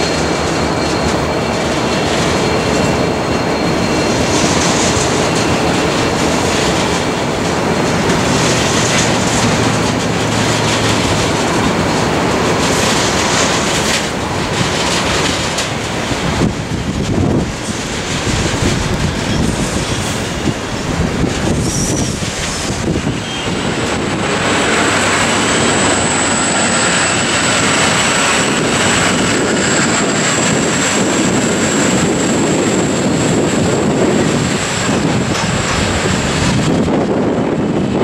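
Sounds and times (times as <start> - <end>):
diesel railcar accelerating: 0.0 - 38.0.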